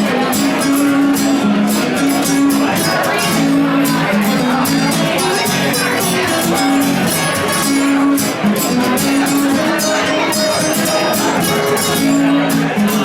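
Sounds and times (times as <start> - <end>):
high percussion beat: 0.0 - 13.0.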